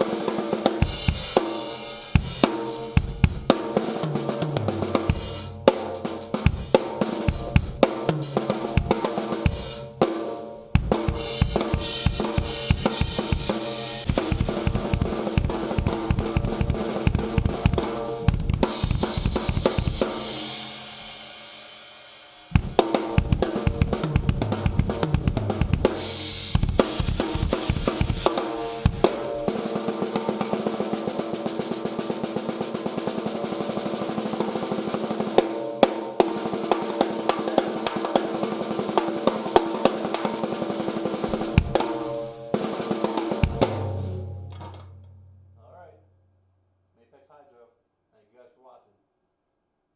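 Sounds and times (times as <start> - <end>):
drum kit played hard: 0.0 - 45.5.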